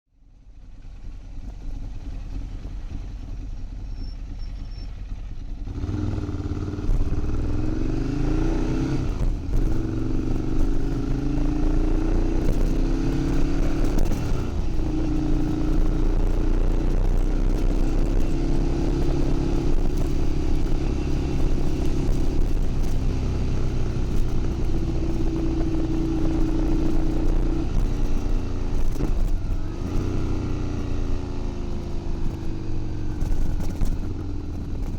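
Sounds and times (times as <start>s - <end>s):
motorcycle engine revving: 0.6s - 34.9s.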